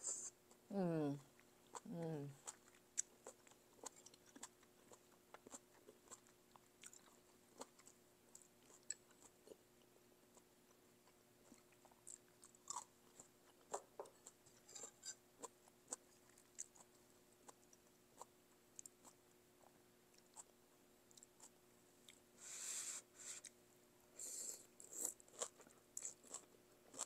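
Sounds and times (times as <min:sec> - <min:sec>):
close chewing with mouth clicks: 0:01.2 - 0:22.2, 0:24.4 - 0:27.0.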